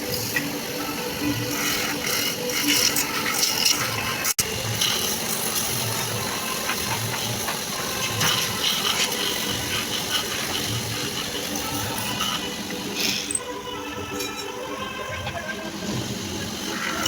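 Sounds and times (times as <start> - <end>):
workshop machine hissing and rattling: 0.0 - 17.0.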